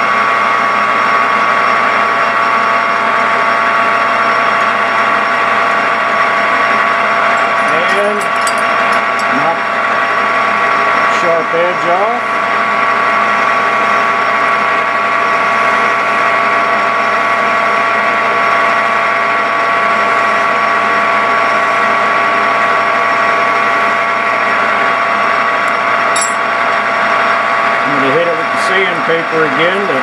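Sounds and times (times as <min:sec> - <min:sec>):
metal lathe motor whine: 0:00.0 - 0:30.0.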